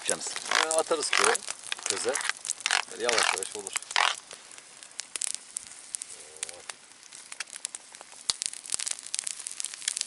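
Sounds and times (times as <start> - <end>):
campfire crackling and popping: 0.0 - 10.0.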